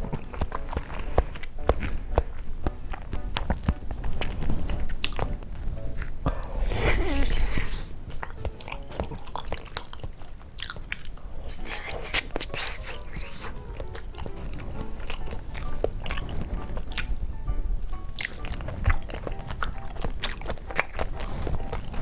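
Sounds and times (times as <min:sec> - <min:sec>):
chewing firm jelly: 0:00.0 - 0:22.0.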